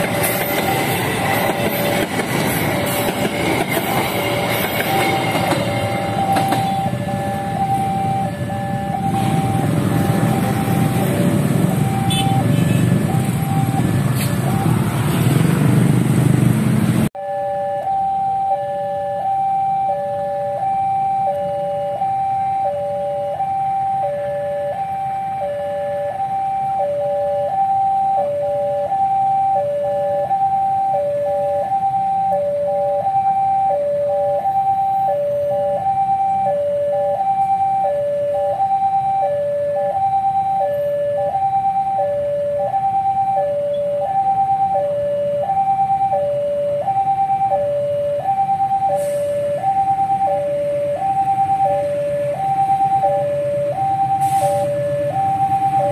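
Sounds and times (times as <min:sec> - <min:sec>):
level crossing two-tone alarm: 0:00.0 - 0:14.8, 0:17.2 - 0:55.9
low rumble of traffic: 0:00.0 - 0:55.9.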